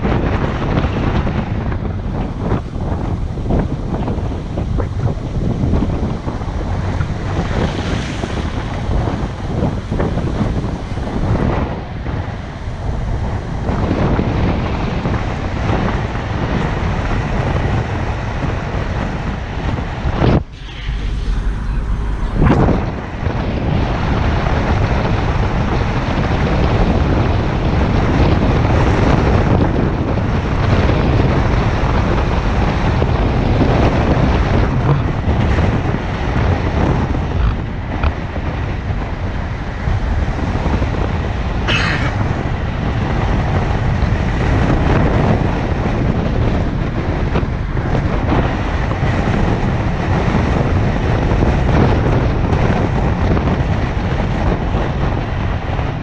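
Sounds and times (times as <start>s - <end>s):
car road and wind noise: 0.0s - 56.0s.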